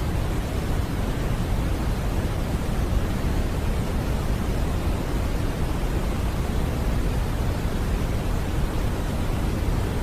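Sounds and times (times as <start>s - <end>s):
steady pink noise hiss: 0.0s - 10.0s.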